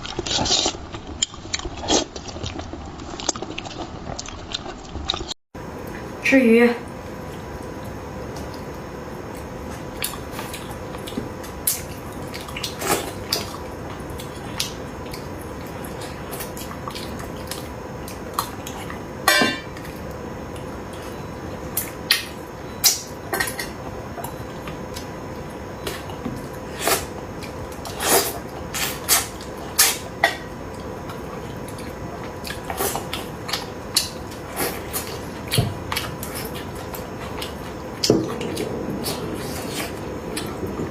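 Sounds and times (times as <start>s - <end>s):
faint steady hum: 5.6s - 40.9s.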